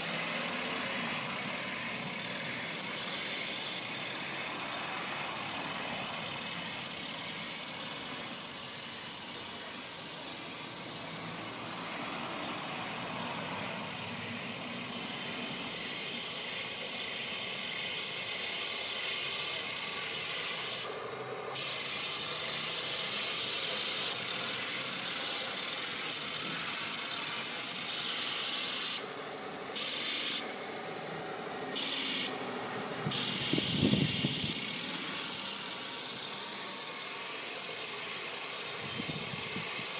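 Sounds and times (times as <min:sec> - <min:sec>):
electric motors whirring: 0:00.0 - 0:39.9.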